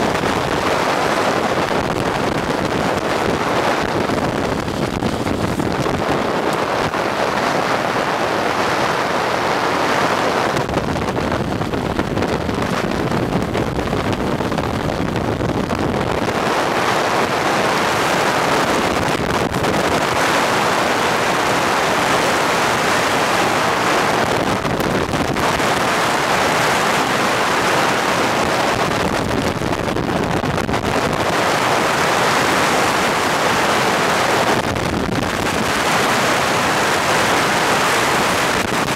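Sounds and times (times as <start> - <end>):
wheels hissing on wet asphalt: 0.0 - 15.1, 15.9 - 38.9
wind rushing over microphone: 0.0 - 38.9.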